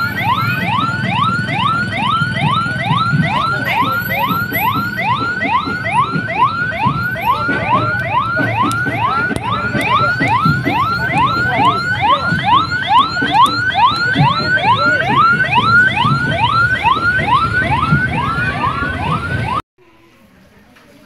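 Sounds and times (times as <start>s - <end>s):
electronic siren yelping: 0.0s - 19.6s.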